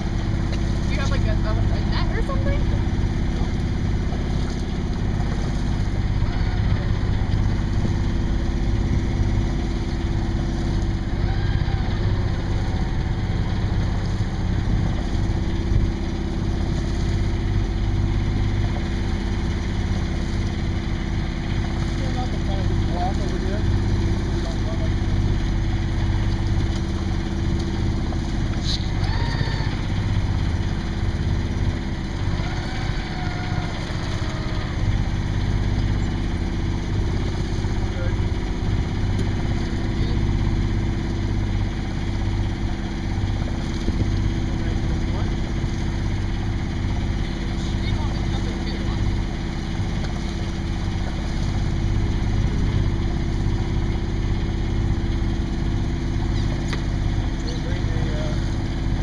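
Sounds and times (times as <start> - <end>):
boat engine idling: 0.0 - 59.0.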